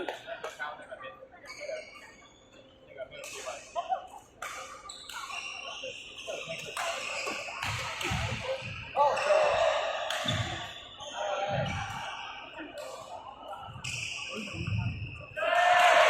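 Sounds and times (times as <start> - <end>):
faint voices: 0.0 - 16.0.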